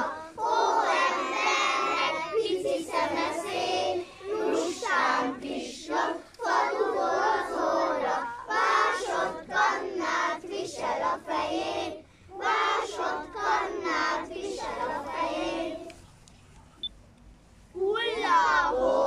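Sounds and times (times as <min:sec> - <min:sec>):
children singing in unison: 0:00.0 - 0:15.9, 0:18.0 - 0:19.0.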